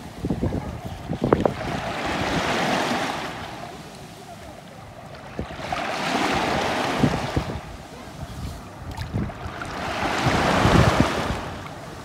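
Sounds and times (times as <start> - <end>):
small waves washing ashore: 0.0 - 12.0.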